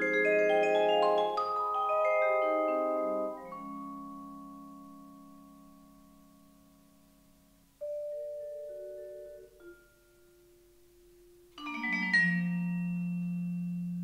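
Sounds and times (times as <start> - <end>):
vibraphone played with mallets: 0.0 - 6.9, 7.8 - 10.7, 11.3 - 14.0.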